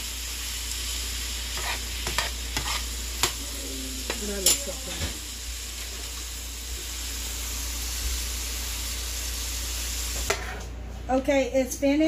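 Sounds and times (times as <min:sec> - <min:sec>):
shrimp sizzling in a pan: 0:00.0 - 0:10.6.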